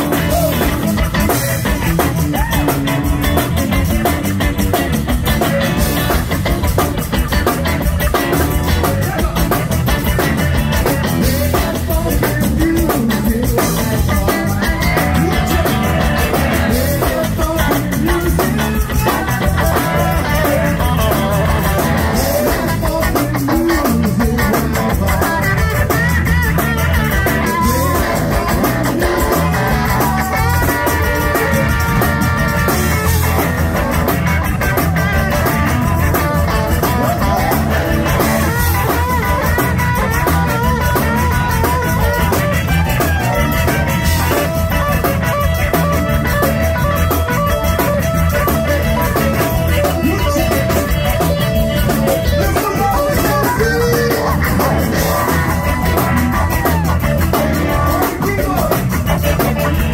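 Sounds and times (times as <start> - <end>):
accordion: 0.0 - 59.9
drum kit beat: 0.0 - 59.9
electric guitar: 0.0 - 59.9.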